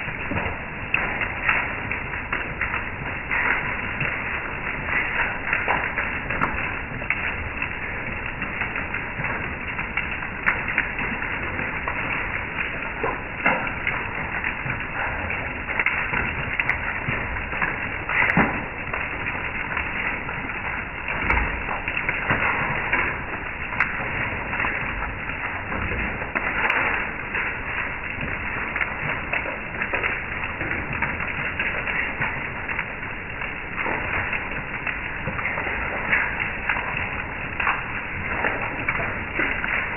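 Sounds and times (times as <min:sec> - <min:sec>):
hail on wooden deck: 0:00.0 - 0:39.9.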